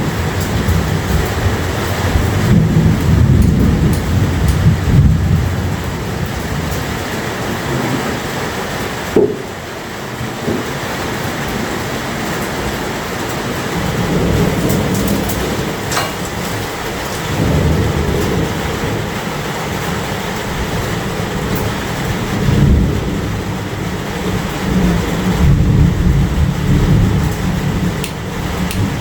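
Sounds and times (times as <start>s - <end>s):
heavy rain: 0.0s - 29.0s
rolling thunder: 0.0s - 29.0s.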